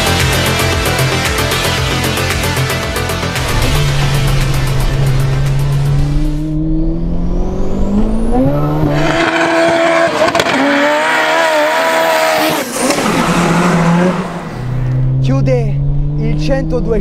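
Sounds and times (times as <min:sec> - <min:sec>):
car engine accelerating hard: 0:03.3 - 0:17.0.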